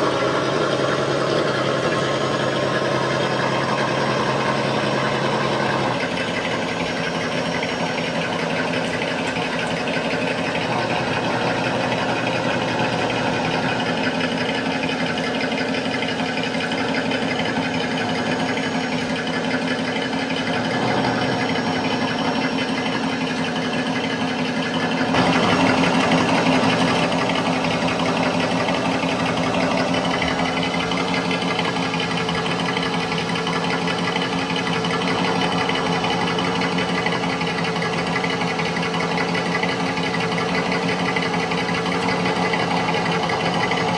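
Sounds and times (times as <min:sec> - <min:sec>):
simulated engine idling: 0:00.0 - 0:43.9.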